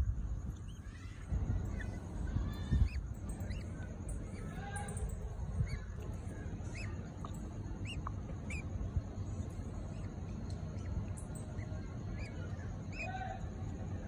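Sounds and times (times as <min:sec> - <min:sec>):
steady low rumble: 0:00.0 - 0:14.0
budgerigar chicks cheeping: 0:00.3 - 0:14.0.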